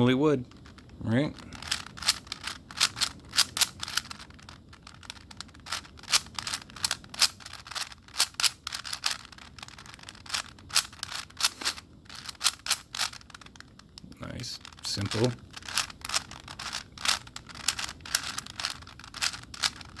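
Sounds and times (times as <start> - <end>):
puzzle cube plastic clicks: 0.4 - 20.0.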